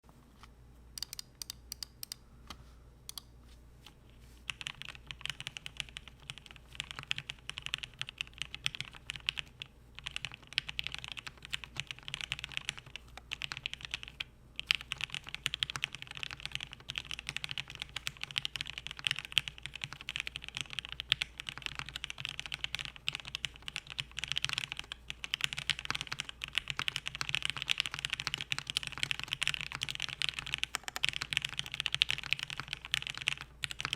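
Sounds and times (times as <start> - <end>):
mechanical keyboard typing: 1.0 - 2.2, 4.5 - 33.9.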